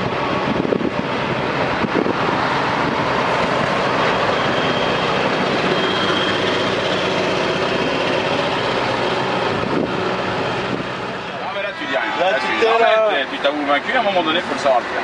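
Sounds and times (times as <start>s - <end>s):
diesel truck engine driving past: 0.0s - 15.0s.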